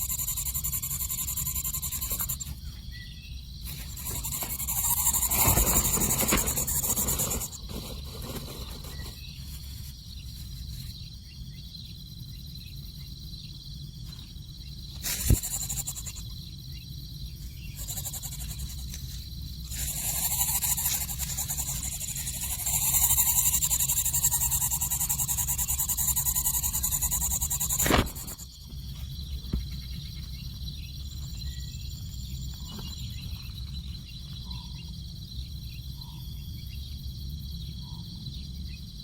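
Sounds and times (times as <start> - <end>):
high insect buzz: 0.0 - 34.3.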